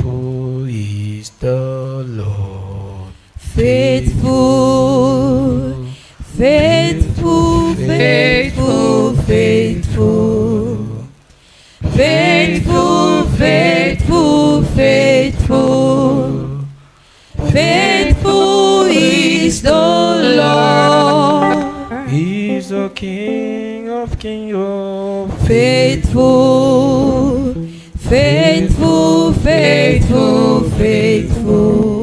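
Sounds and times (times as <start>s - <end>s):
voices singing gospel song: 0.0s - 32.0s.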